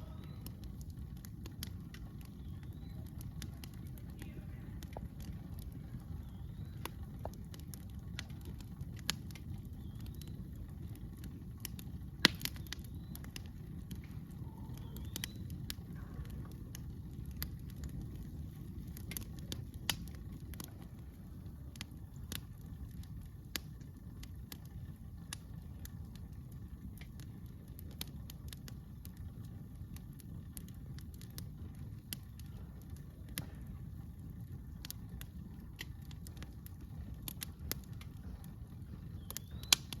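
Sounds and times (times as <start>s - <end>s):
campfire crackling and popping: 0.0s - 40.0s
steady low rumble: 0.0s - 40.0s.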